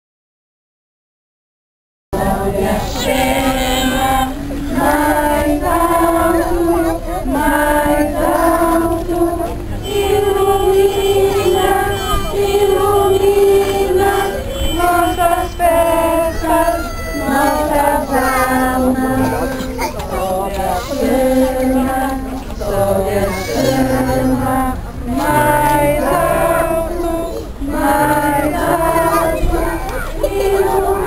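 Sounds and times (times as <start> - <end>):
children and women singing: 2.2 - 31.0.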